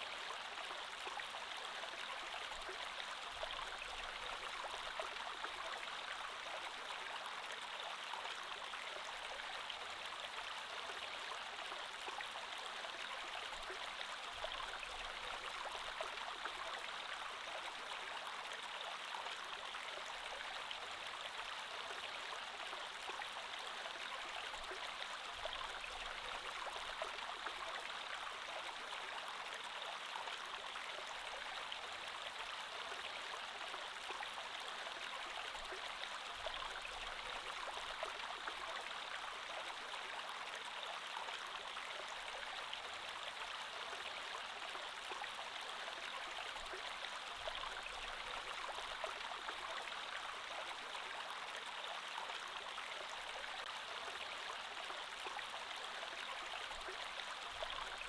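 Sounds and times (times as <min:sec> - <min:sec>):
creek flowing over rocks: 0:00.0 - 0:58.0.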